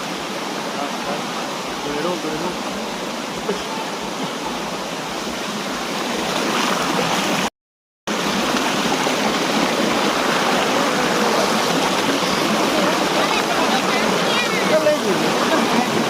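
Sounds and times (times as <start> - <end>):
waterfall rushing: 0.0 - 7.5, 8.1 - 16.0.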